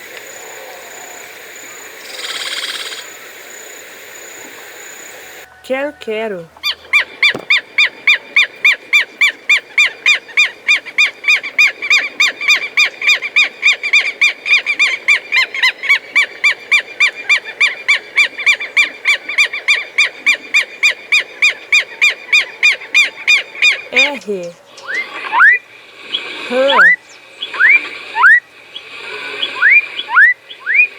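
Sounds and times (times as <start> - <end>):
lapwing calling: 0.0 - 30.9.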